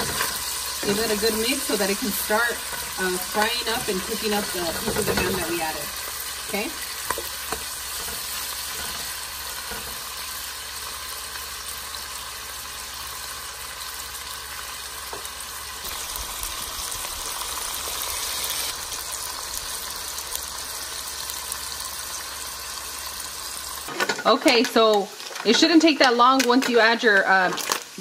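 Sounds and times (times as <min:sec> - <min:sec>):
bacon sizzling in fat: 0:00.0 - 0:28.0.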